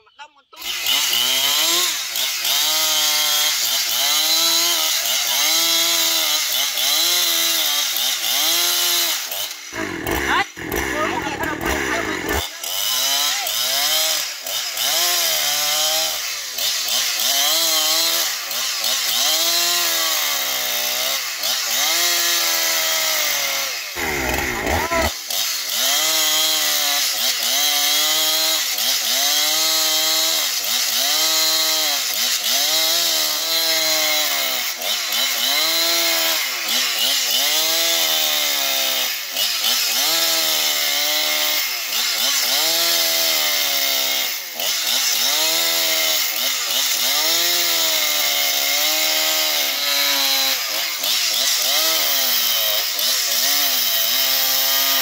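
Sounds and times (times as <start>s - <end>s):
chainsaw cutting through log: 0.0s - 55.0s.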